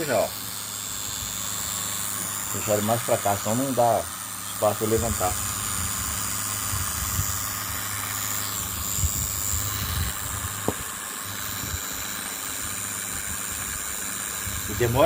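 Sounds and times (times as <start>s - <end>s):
toy drone motor whine: 0.0s - 15.0s.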